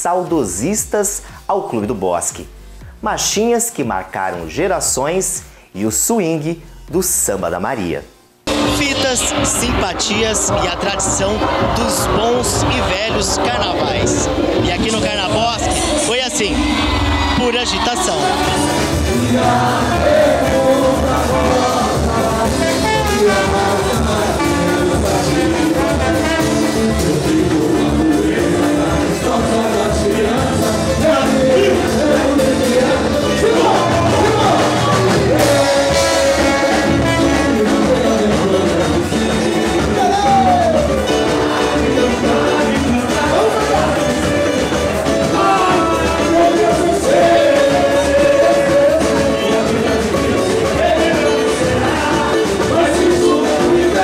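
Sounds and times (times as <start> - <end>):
carnival band music: 0.0 - 54.0
person singing: 8.5 - 54.0.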